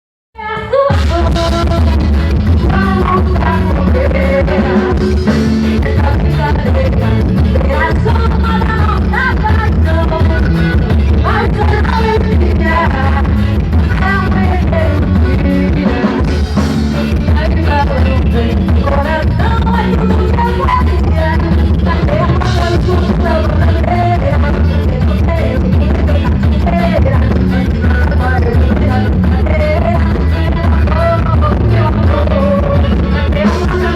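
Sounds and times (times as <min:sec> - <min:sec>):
band music with heavy bass: 0:00.4 - 0:33.9.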